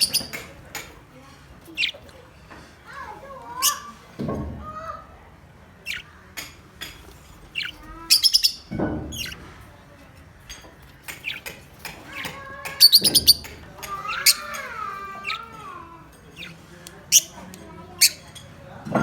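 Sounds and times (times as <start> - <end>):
parrots chirping: 0.0 - 1.0, 1.6 - 2.2, 3.2 - 4.1, 5.7 - 18.7.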